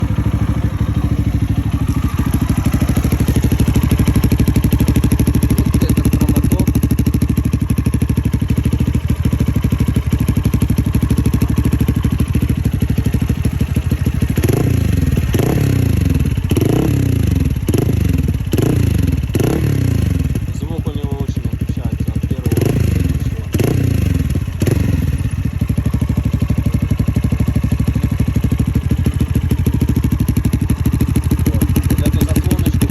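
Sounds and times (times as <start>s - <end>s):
motorcycle engine idling: 0.0s - 32.9s
motorcycle throttle blips: 0.0s - 32.9s.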